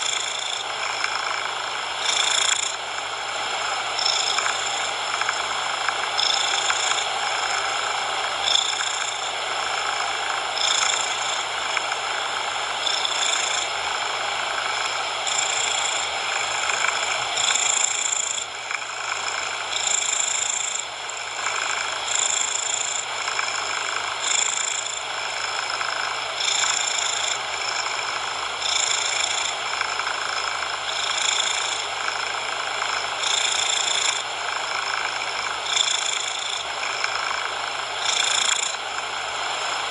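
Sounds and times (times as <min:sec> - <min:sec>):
cat purring: 0:00.0 - 0:39.9
steady noise hiss: 0:00.0 - 0:39.9.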